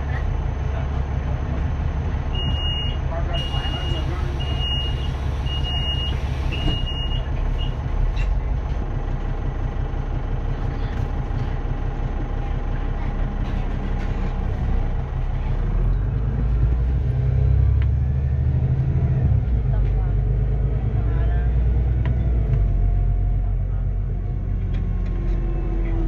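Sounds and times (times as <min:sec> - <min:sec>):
bus diesel engine rumbling: 0:00.0 - 0:26.0.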